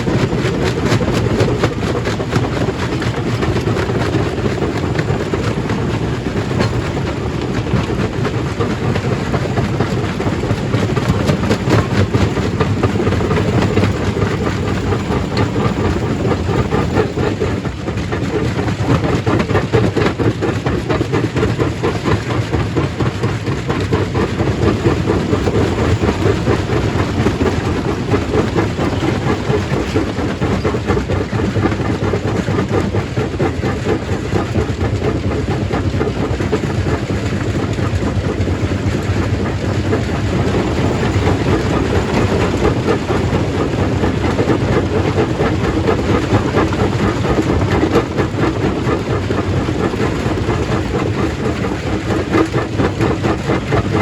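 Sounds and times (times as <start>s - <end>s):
low machine drone: 0.0s - 54.0s.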